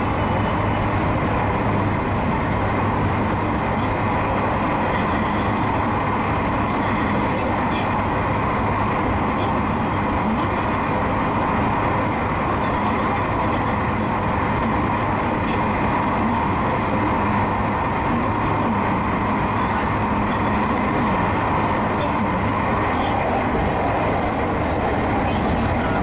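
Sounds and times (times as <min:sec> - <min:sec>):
train wheels on rail: 0:00.0 - 0:26.0.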